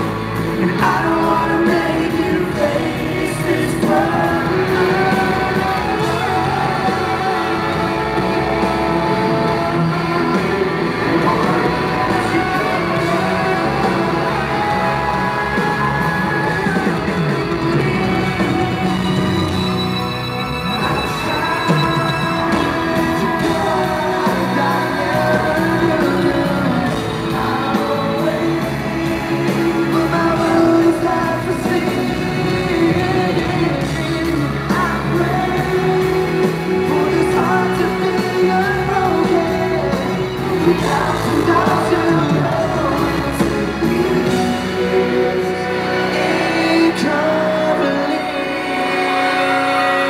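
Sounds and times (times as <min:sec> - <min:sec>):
live pop music with singing: 0:00.0 - 0:50.0.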